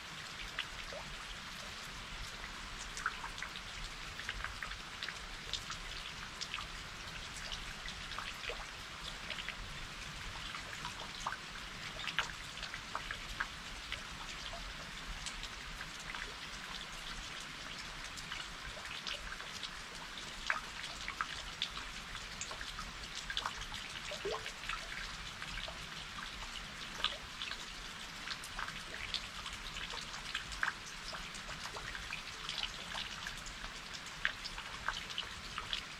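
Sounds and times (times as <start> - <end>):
raindrops ticking close by: 0.0 - 35.9
steady rain hiss: 0.0 - 35.9.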